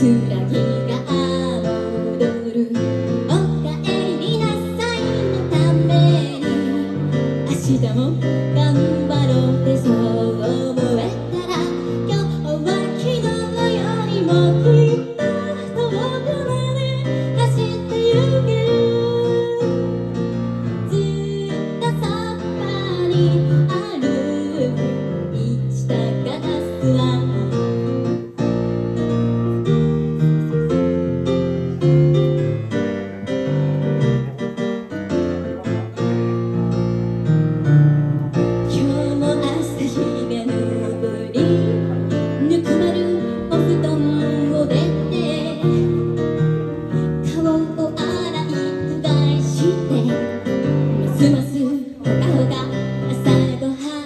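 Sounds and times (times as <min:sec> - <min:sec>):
piano chords: 0:00.0 - 0:54.0.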